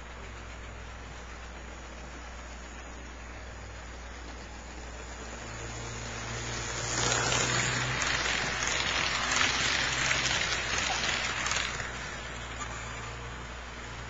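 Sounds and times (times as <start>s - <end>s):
model train wheels clattering on rails: 0.0s - 13.2s
low motor hum: 0.0s - 14.0s.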